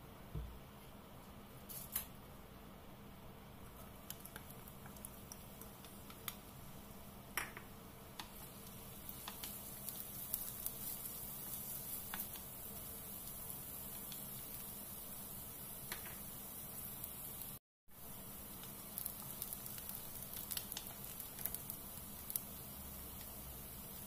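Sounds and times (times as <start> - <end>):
hot oil crackling and popping: 3.6 - 24.0
onion sizzling in oil: 3.6 - 24.0.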